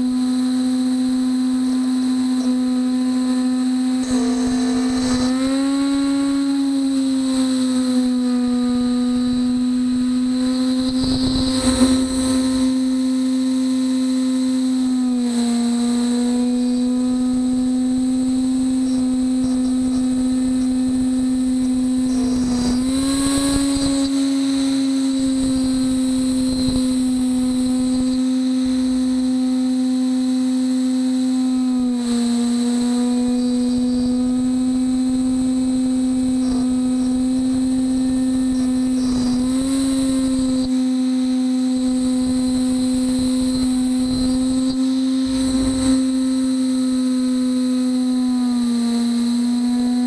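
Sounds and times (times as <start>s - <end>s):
router spindle whining: 0.0s - 50.0s.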